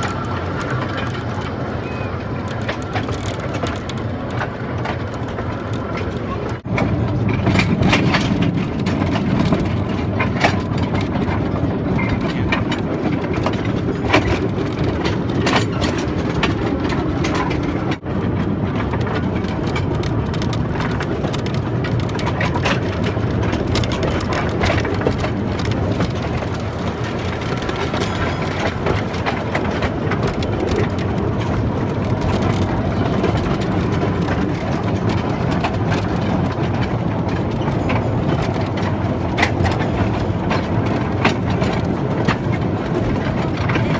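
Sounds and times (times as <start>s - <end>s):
ride-on train rolling noise: 0.0s - 43.9s
wheels clacking and knocking: 0.0s - 43.9s.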